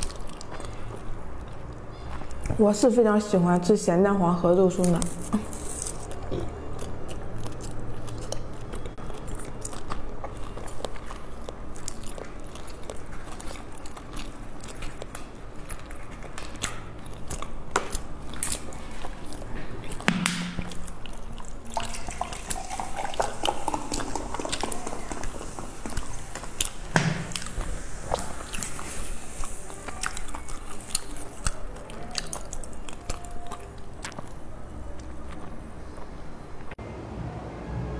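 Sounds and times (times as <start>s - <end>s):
person chewing pastry: 0.0s - 2.9s, 4.8s - 36.8s.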